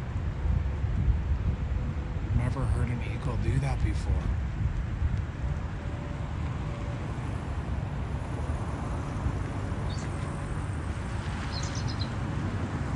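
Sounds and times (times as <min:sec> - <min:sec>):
steady background noise: 0:00.0 - 0:12.9.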